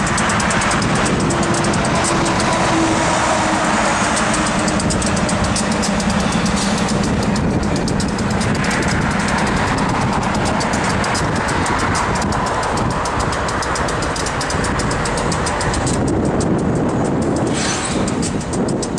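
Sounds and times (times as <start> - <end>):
freight train rumbling past: 0.0 - 18.9
wheels clicking on rails: 0.0 - 18.9.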